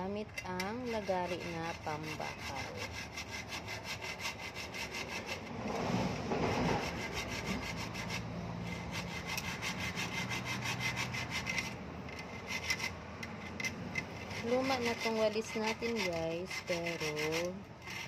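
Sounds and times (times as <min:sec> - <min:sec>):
hacksaw cutting plastic: 0:00.0 - 0:18.0.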